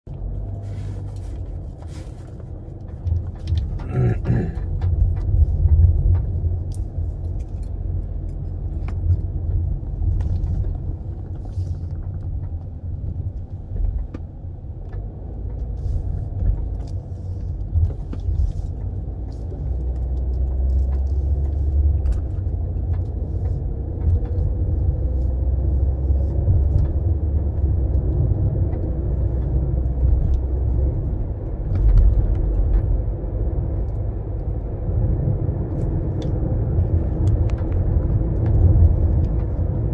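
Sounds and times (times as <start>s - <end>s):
car engine and tyres rumbling: 0.0s - 39.9s
faint clicks and rattles: 1.1s - 35.0s.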